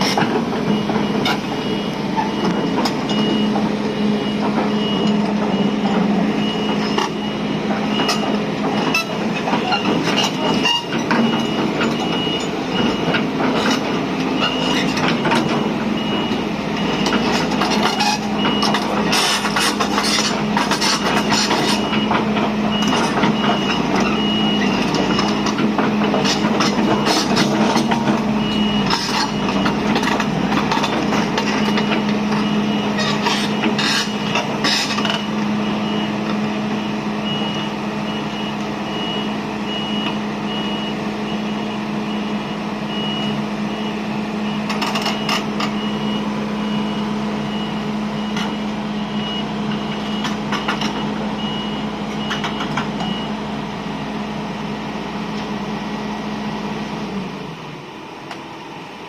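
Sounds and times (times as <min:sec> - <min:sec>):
travel alarm beeping: 0:00.0 - 0:53.4
excavator diesel engine under load: 0:00.0 - 0:59.0.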